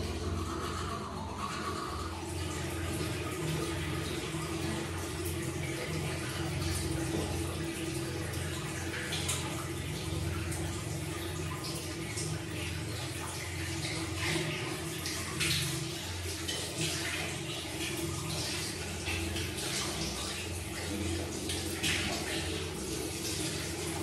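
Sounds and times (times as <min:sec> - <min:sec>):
tap water running into washbasin: 0:00.0 - 0:24.0.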